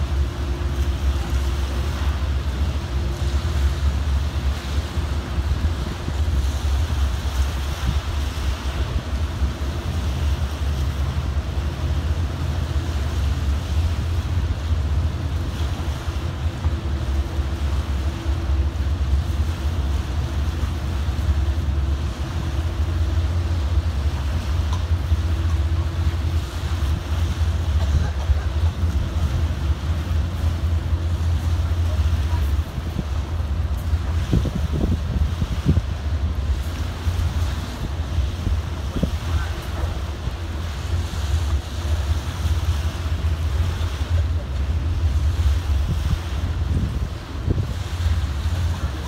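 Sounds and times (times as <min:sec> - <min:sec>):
faint engine hum: 0:00.0 - 0:49.0
harbour water washing: 0:00.0 - 0:49.0
wind buffeting microphone: 0:00.0 - 0:49.0.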